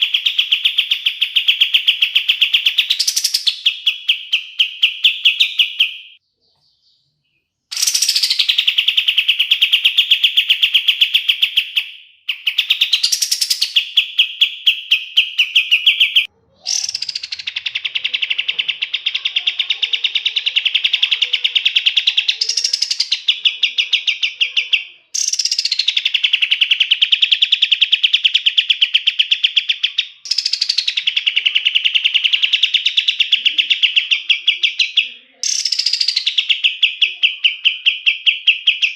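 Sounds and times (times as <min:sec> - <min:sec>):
bird singing rattling trills: 0:07.7 - 0:38.9.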